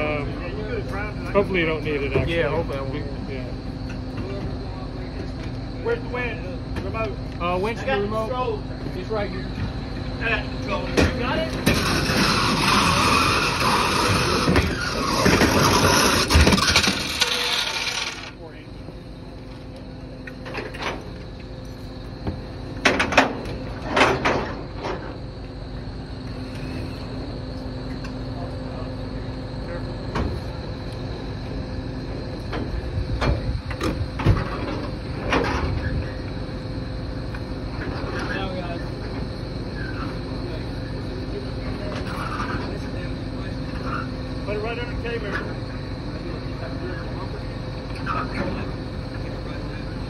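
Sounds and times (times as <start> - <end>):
winch machine hum: 0.0 - 50.0.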